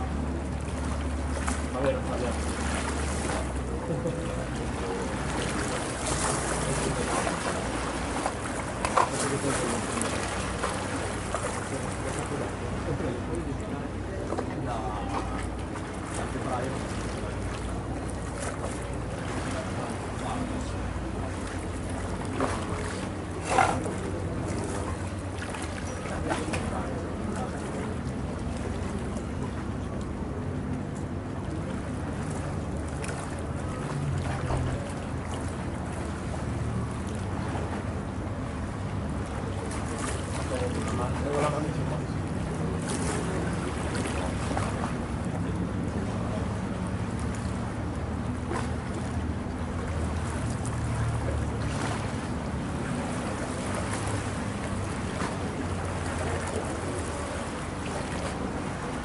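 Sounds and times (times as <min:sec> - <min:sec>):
boat engine running: 0:00.0 - 0:59.0
rushing water: 0:00.0 - 0:59.0.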